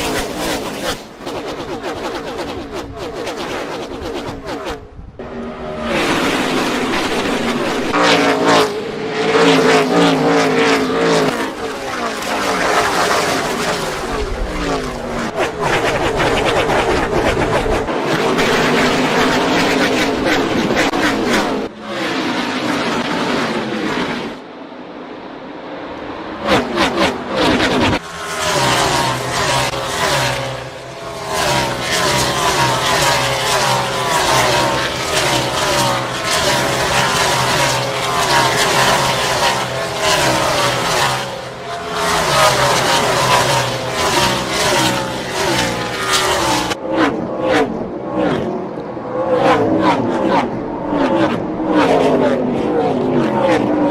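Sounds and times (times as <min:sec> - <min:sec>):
race car engines revving and passing: 0:00.0 - 0:53.9.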